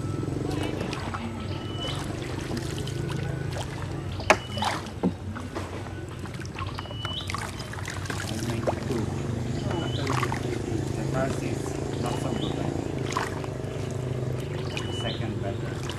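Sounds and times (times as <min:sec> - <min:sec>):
boat engine droning: 0:00.0 - 0:15.9.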